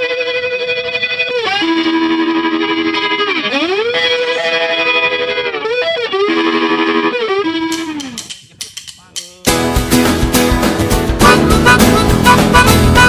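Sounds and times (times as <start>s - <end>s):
instrumental music sliding notes: 0.0s - 13.0s.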